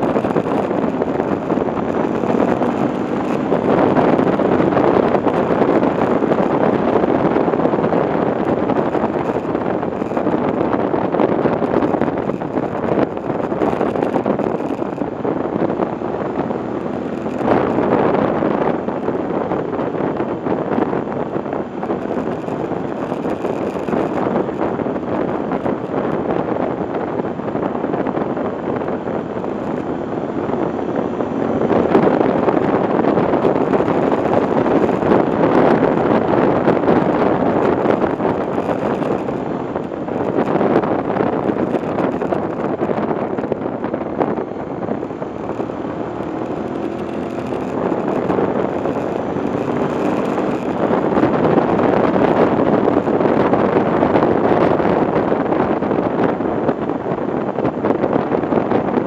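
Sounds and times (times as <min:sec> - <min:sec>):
vehicle engine running: 0:00.0 - 0:59.0
wind and tyre noise: 0:00.0 - 0:59.0.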